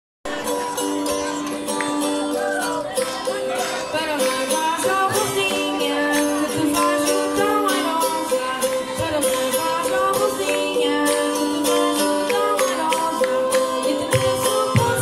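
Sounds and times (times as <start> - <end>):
people singing: 0.3 - 15.0
plucked guitars: 0.3 - 15.0.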